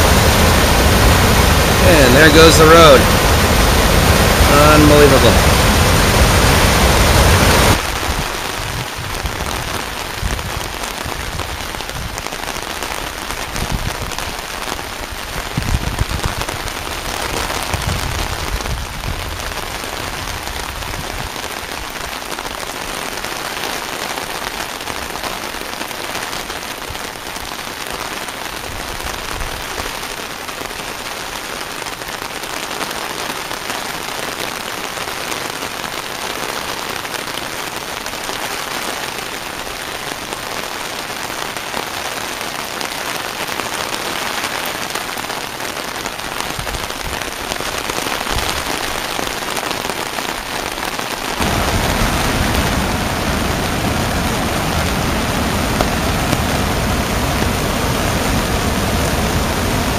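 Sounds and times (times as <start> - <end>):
steady rain on grass and gravel: 0.0 - 59.9.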